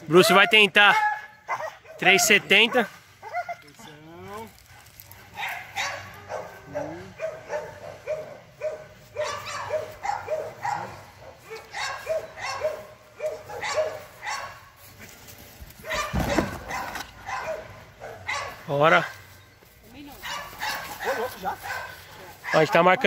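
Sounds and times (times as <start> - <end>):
dog barking excitedly: 0.1 - 3.6, 5.1 - 14.7, 15.8 - 19.1, 20.2 - 23.0.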